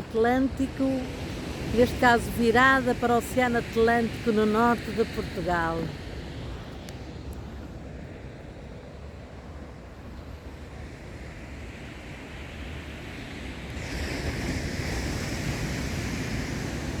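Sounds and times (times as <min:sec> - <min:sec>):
surf rumble: 0:00.0 - 0:17.0
wave hiss: 0:00.0 - 0:17.0.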